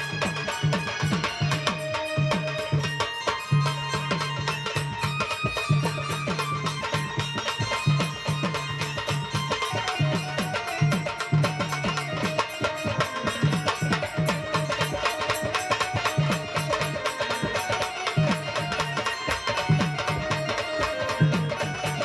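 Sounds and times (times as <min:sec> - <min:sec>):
held melody line: 0:00.0 - 0:22.0.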